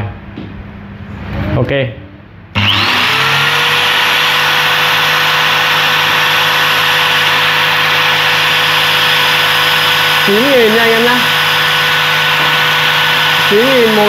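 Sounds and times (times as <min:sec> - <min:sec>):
angle grinder motor whine: 0:02.6 - 0:14.0.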